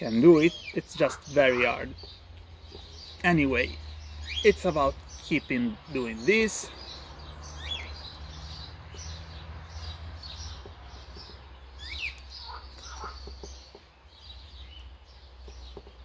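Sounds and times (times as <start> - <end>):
low outdoor background hum: 0.0 - 16.0.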